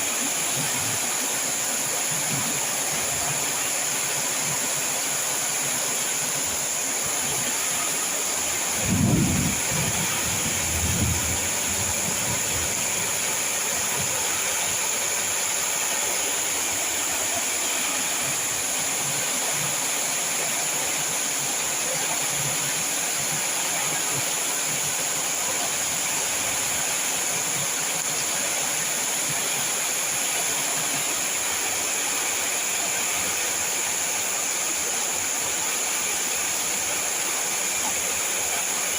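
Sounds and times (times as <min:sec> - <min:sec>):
heavy rain in strong wind: 0:00.0 - 0:38.9.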